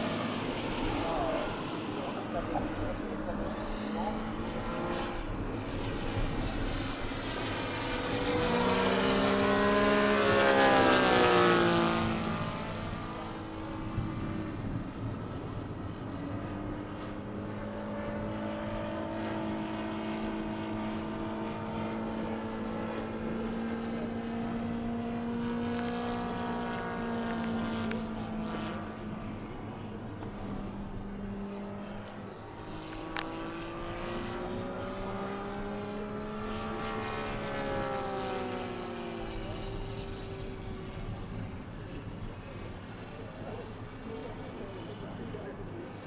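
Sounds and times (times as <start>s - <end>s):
model plane propeller engines droning: 0.0s - 46.0s.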